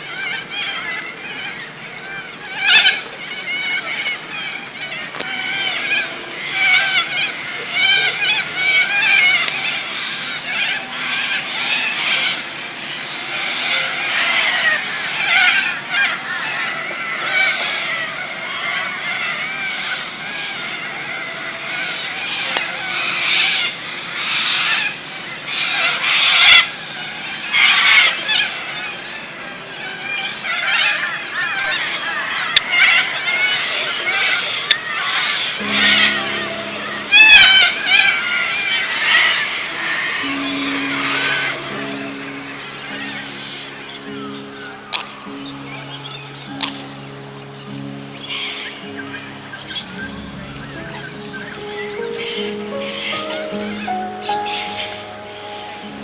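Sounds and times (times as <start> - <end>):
birds chirping and calling: 0.0 - 56.0
harsh screeching bird calls: 0.0 - 56.0.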